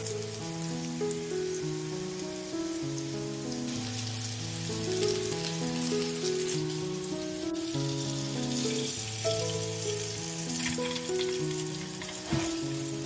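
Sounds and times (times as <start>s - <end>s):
fish balls sizzling in oil: 0.0s - 13.0s
slow background music: 0.0s - 13.0s.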